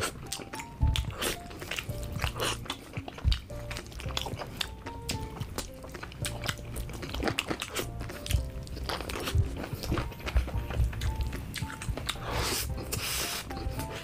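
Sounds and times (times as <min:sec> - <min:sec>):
background music with held notes: 0:00.0 - 0:14.0
man biting and chewing: 0:00.0 - 0:14.0.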